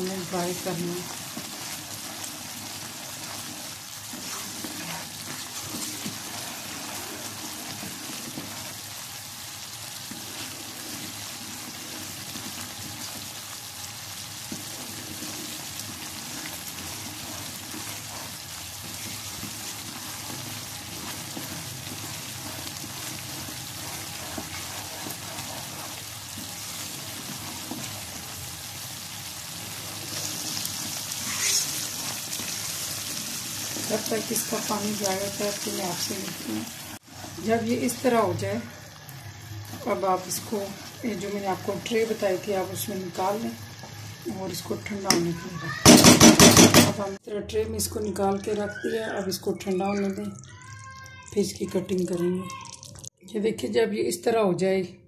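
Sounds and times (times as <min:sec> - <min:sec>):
spatula stirring: 0:00.0 - 0:47.0, 0:48.0 - 0:53.1
mixture bubbling in a pan: 0:00.0 - 0:53.2.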